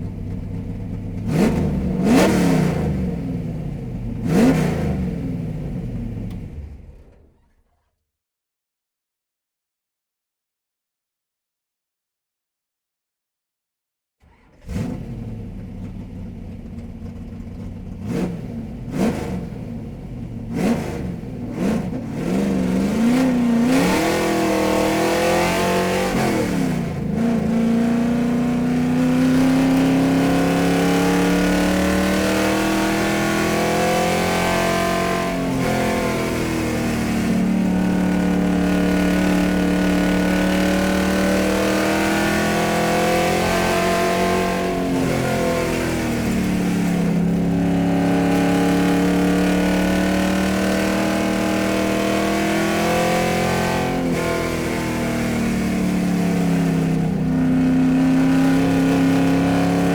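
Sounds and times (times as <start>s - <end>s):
car engine revving: 0.0s - 6.7s, 14.3s - 59.9s.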